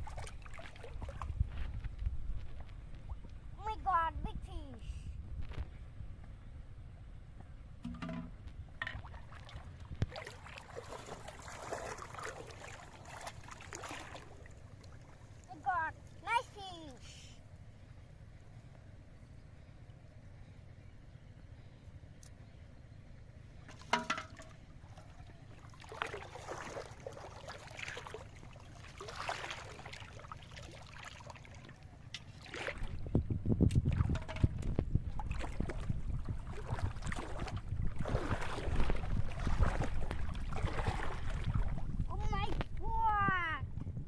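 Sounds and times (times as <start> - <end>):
water splashing and sloshing: 0.0 - 4.8, 7.8 - 18.6, 23.5 - 43.6
steady low rumble: 0.0 - 23.7, 31.4 - 44.0.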